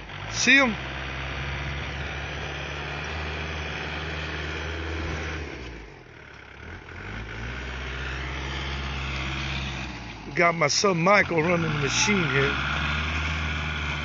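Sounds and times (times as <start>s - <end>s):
snow machine engine running: 0.0s - 14.0s.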